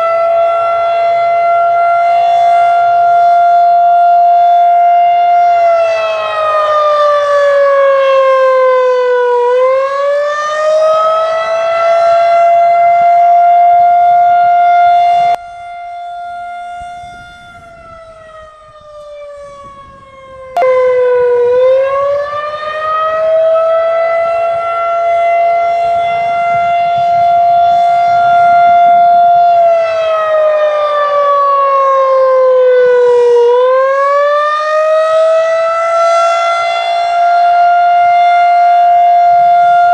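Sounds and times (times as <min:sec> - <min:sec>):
tornado siren rising and falling: 0:00.0 - 0:39.9.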